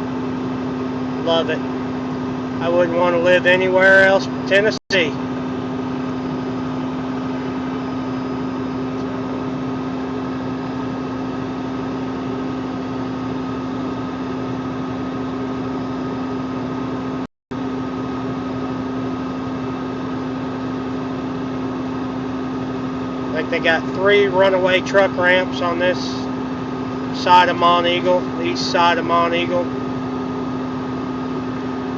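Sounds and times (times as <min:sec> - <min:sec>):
diesel truck engine braking drone: 0:00.0 - 0:31.9.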